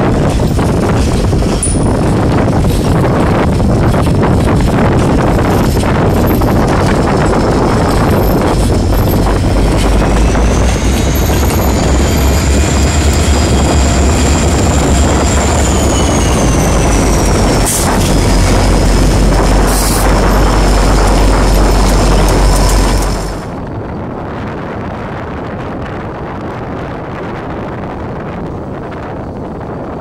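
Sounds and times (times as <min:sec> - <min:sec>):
diesel locomotive engines rumbling: 0:00.0 - 0:30.0.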